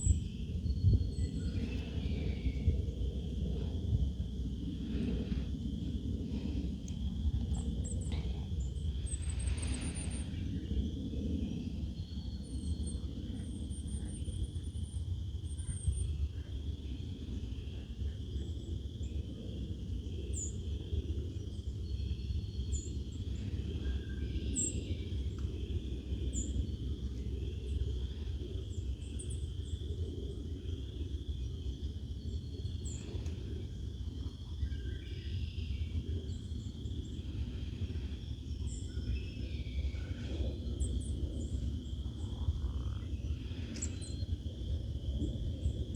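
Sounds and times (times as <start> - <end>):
low outdoor rumble: 0.0 - 45.9.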